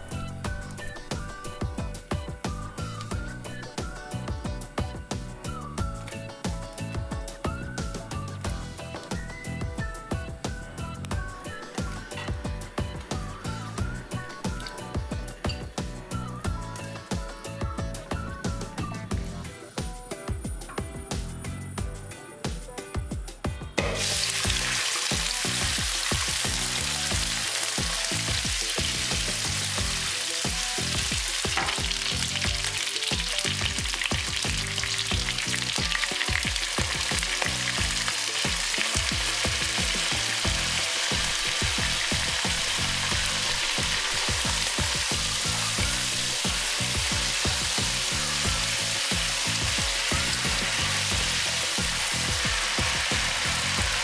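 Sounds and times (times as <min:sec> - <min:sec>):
food sizzling in hot oil: 0:00.0 - 0:19.4, 0:23.8 - 0:54.0.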